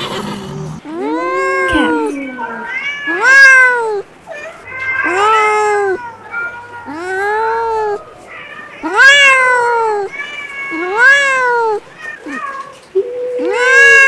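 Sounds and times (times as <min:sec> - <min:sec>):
kittens meowing: 0:00.0 - 0:14.0.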